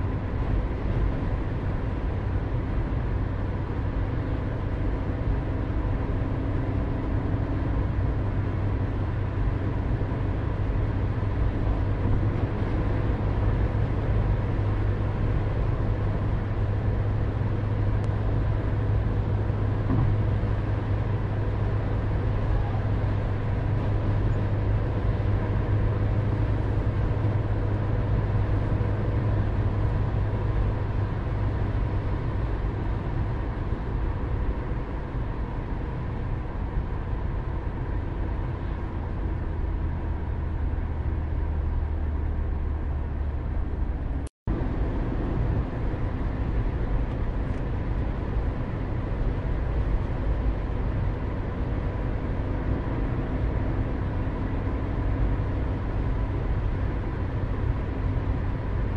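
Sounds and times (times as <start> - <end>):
car driving road rumble: 0.0 - 58.9.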